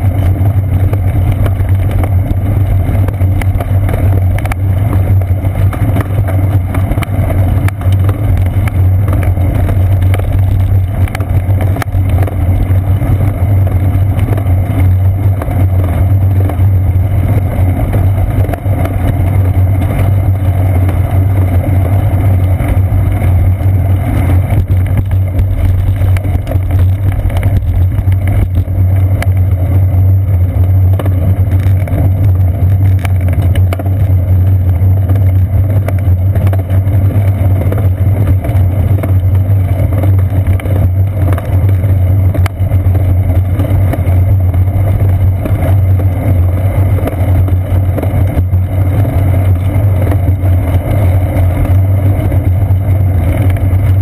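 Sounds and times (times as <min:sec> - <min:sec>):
bicycle riding rumble: 0:00.0 - 0:54.0
tyre vibration on pavement: 0:00.0 - 0:54.0
wind: 0:00.0 - 0:54.0.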